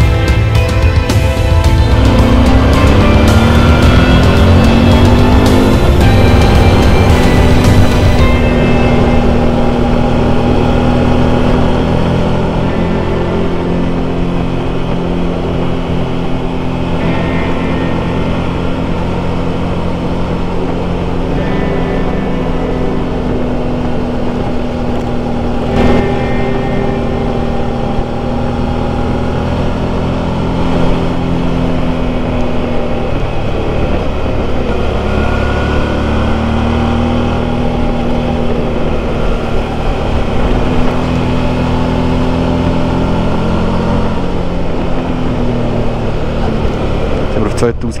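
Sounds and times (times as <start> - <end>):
motorcycle engine running: 0.0 - 48.0
road and wind noise: 0.0 - 48.0.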